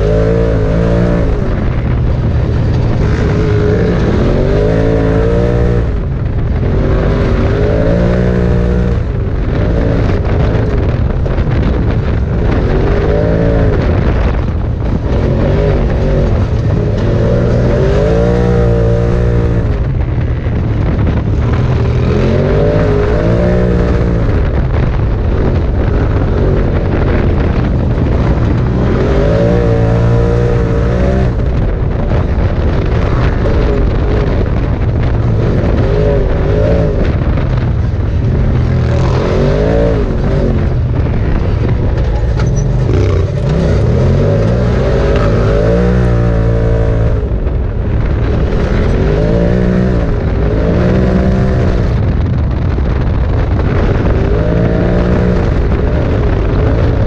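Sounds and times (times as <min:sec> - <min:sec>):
vehicle engine running: 0:00.0 - 0:57.0
wind and tyre noise: 0:00.0 - 0:57.0.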